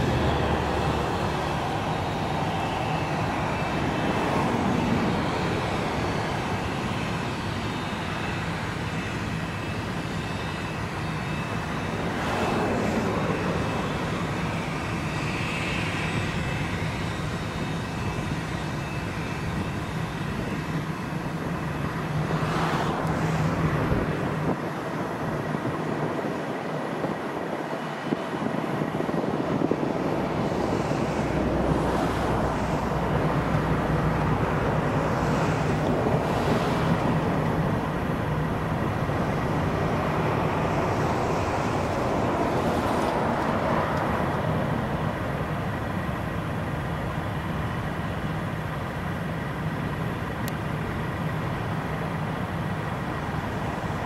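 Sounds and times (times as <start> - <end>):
faint high whine: 0.0 - 54.0
jet engines rumbling and hissing: 0.0 - 54.0.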